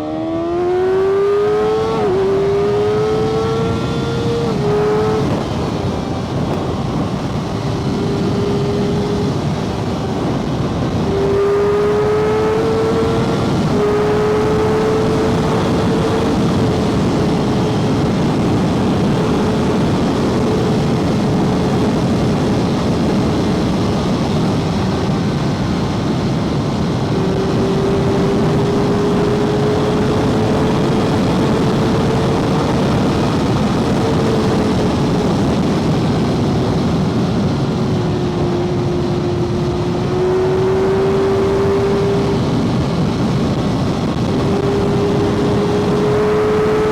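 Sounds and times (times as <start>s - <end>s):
motorcycle engine cruising: 0.0s - 46.9s
wind rushing: 0.0s - 46.9s.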